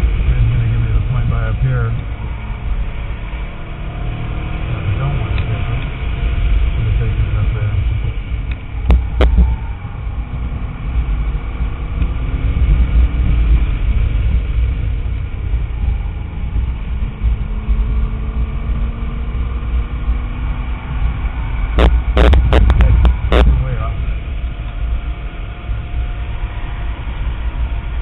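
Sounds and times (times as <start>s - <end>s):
car engine under load: 0.0s - 28.0s
wind and road noise: 0.0s - 28.0s.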